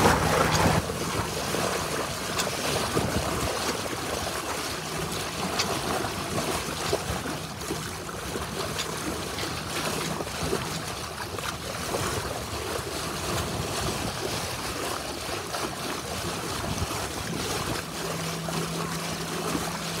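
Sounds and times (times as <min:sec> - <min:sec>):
bow wave splashing along hull: 0:00.0 - 0:20.0
low steady hum: 0:00.0 - 0:20.0.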